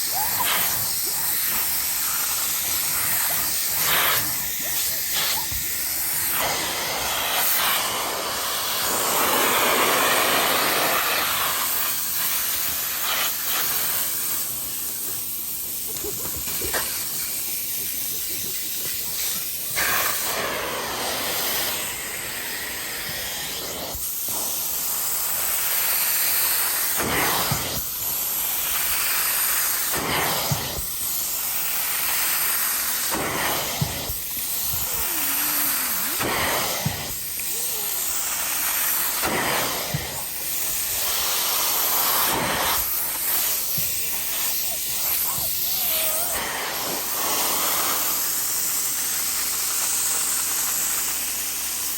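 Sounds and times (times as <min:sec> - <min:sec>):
hiss of suction: 0:00.0 - 0:51.9.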